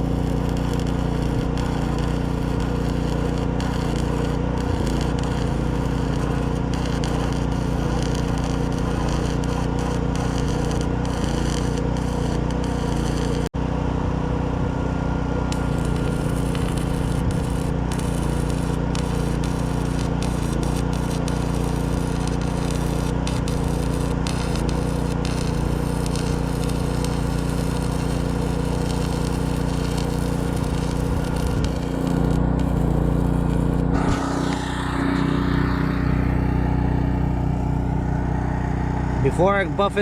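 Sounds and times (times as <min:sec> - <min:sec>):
welding arc crackling: 0:00.0 - 0:13.5, 0:15.5 - 0:36.4
generator running: 0:00.0 - 0:40.0.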